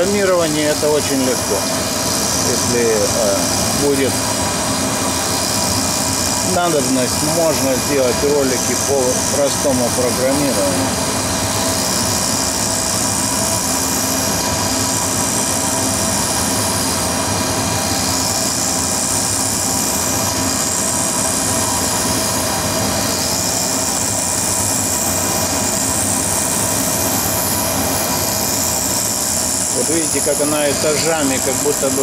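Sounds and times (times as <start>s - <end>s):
milling machine cutting: 0.0s - 32.0s
vacuum hose hiss: 0.0s - 32.0s.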